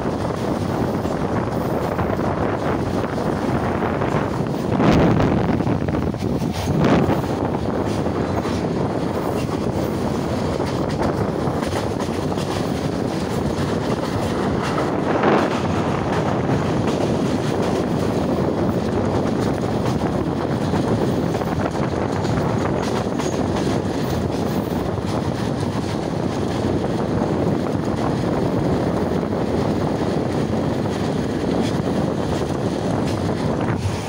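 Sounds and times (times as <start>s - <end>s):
train rumbling on rails: 0.0s - 34.0s
wind rushing past microphone: 0.0s - 34.0s.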